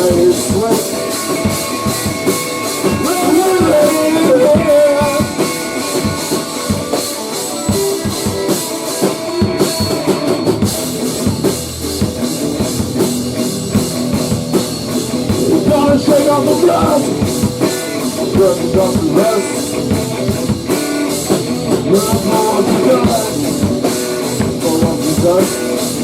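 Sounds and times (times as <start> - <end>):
drum kit beat: 0.0 - 26.0
rock band playing: 0.0 - 26.0.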